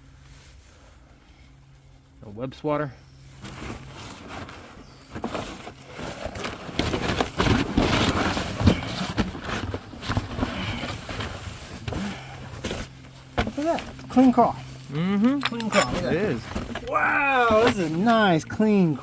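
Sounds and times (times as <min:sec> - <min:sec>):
person crawling over ground: 0:03.4 - 0:19.0.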